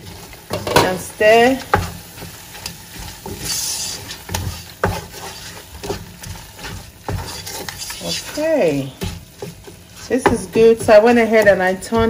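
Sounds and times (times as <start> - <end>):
sauce sizzling: 0.0 - 12.0
spatula scraping a pot: 0.0 - 12.0.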